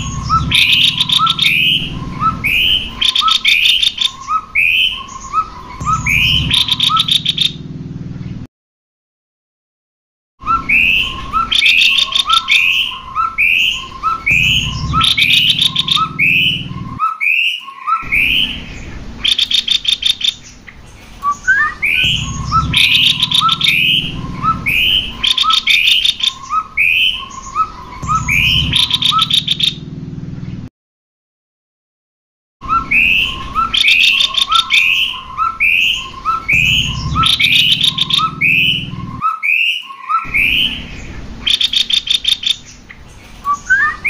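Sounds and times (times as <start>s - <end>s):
birds singing whistles and trills: 0.0s - 7.6s, 10.4s - 30.7s, 32.6s - 44.0s
low hum: 0.0s - 8.5s, 10.4s - 17.0s, 18.0s - 30.7s, 32.6s - 39.2s, 40.3s - 44.0s.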